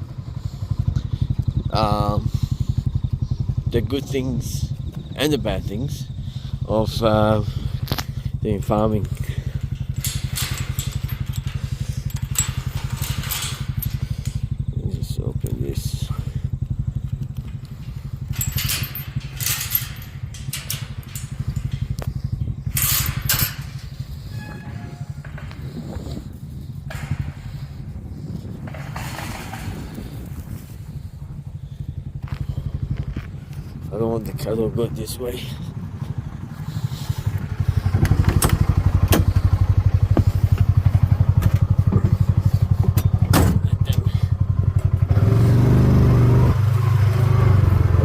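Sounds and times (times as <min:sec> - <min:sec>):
sharp clanks and rattles: 0:00.0 - 0:48.0
small engine idling: 0:00.0 - 0:48.0.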